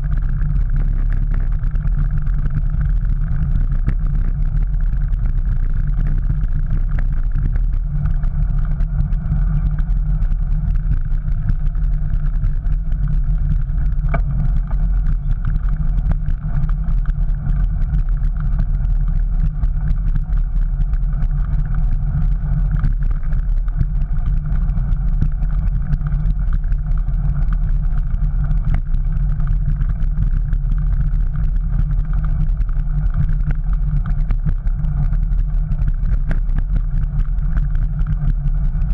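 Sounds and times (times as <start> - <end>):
bicycle rolling on pavement: 0.0 - 38.9
small clicks and rattles: 0.0 - 38.9
wind rumble: 0.0 - 38.9.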